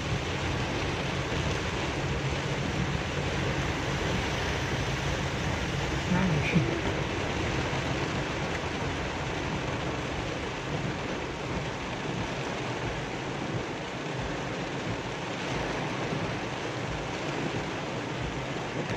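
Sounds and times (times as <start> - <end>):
heavy rain on car roof: 0.0 - 18.9
road and engine noise: 0.0 - 18.9.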